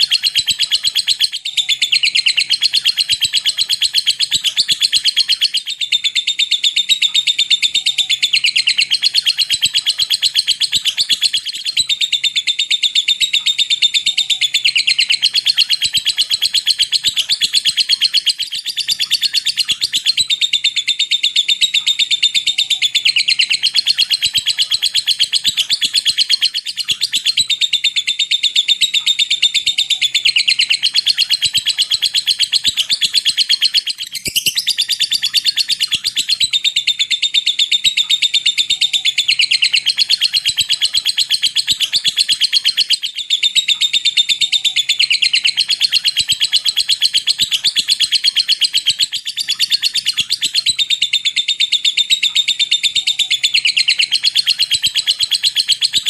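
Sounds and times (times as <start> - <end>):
lovebird chattering high chirps: 0.0 - 56.0.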